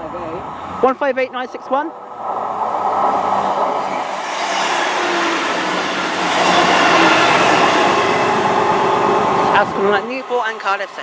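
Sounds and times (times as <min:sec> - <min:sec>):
train wheels rolling on rails: 0:02.0 - 0:11.0
diesel train engines running: 0:02.1 - 0:11.0.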